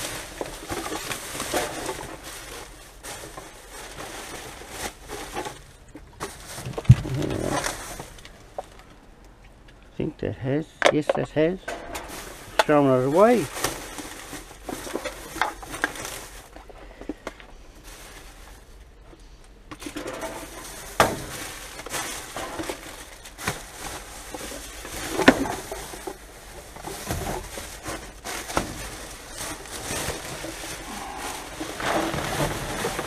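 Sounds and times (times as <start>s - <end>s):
plastic bags rustling: 0.0s - 9.2s, 11.8s - 19.0s, 19.6s - 33.0s.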